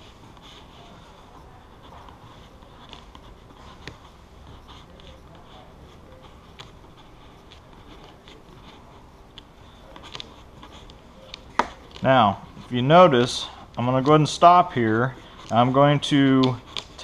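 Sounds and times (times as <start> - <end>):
squeegee scraping on vinyl: 0.0 - 17.0.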